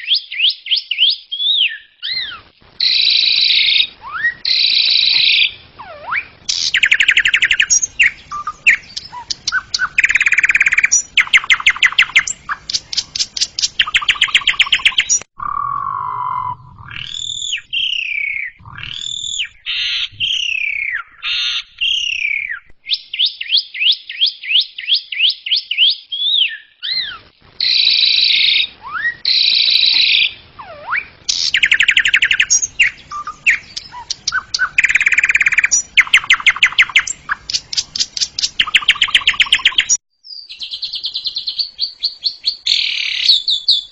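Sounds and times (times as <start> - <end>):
starling singing: 2.0 - 22.6, 26.8 - 43.9.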